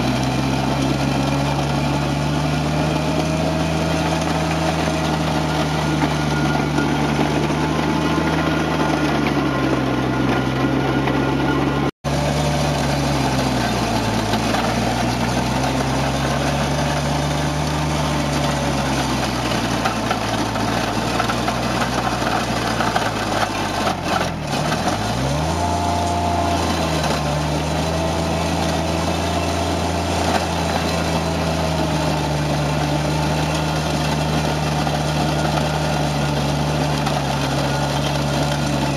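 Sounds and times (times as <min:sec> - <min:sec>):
loader engine running: 0:00.0 - 0:38.9
power rake working through gravel: 0:00.0 - 0:38.9.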